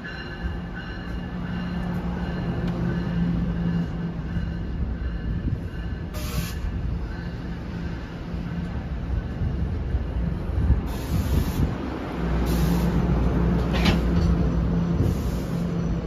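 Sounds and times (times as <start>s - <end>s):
train arriving with rumble: 0.0s - 16.0s.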